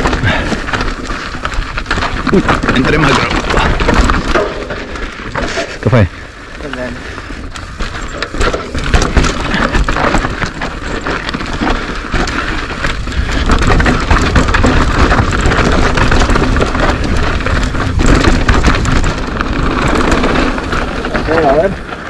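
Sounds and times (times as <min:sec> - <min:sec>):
bike rattling and clicking: 0:00.0 - 0:22.0
tyres crunching over dirt and stones: 0:00.0 - 0:22.0.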